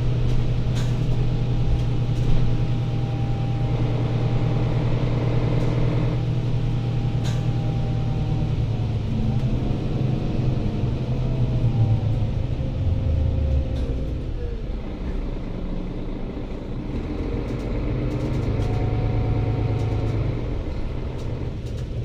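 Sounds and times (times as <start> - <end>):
bus engine drone: 0.0 - 22.0
road rumble: 0.0 - 22.0.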